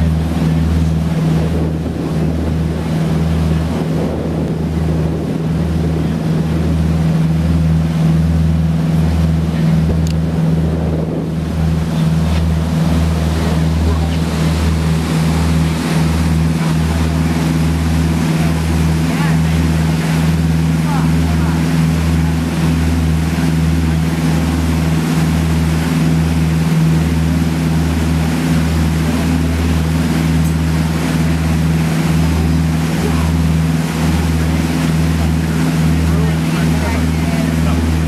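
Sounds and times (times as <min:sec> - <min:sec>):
motorboat engines droning: 0:00.0 - 0:38.0
rushing water from wake: 0:00.0 - 0:38.0
wind on microphone: 0:00.0 - 0:38.0.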